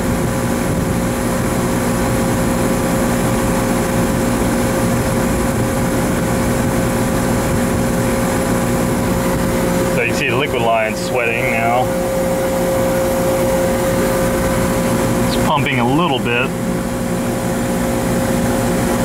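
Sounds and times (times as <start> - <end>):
compressor humming: 0.0 - 19.0
rush of machine noise: 0.0 - 19.0.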